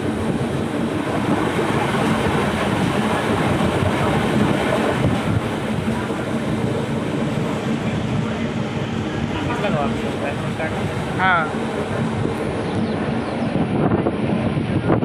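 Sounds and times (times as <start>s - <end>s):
train wheels on track: 0.0s - 15.0s.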